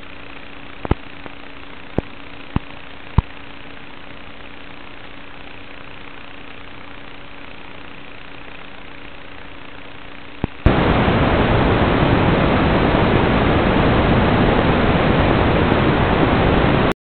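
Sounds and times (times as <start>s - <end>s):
faint hum: 0.0s - 17.0s
loud static hiss: 0.0s - 17.0s.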